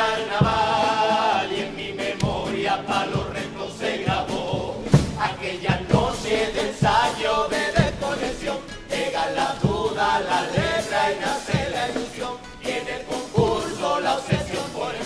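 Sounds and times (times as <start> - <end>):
group singing in chorus: 0.0 - 15.0
bass drum beat: 2.2 - 15.0.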